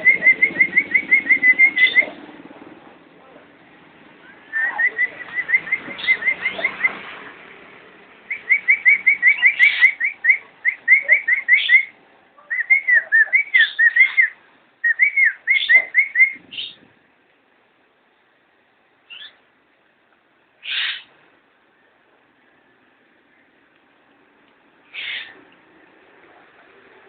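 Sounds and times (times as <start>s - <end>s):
lovebirds chirping: 0.0s - 2.4s, 3.3s - 17.0s, 19.0s - 19.5s, 20.6s - 27.0s.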